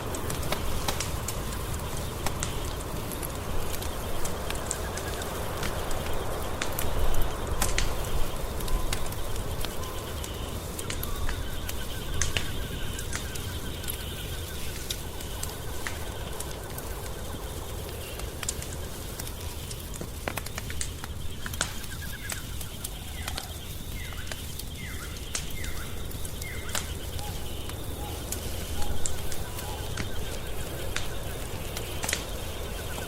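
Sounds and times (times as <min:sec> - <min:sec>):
low rumble of flames: 0:00.0 - 0:33.0
wood fire crackling: 0:00.0 - 0:33.0.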